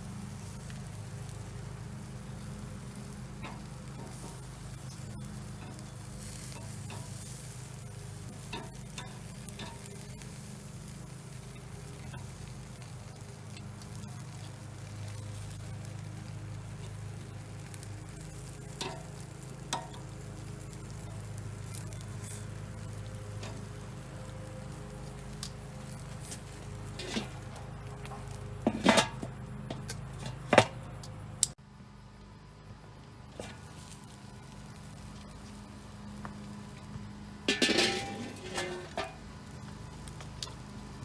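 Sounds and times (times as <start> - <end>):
chicken sizzling on a grill: 0.0 - 41.0.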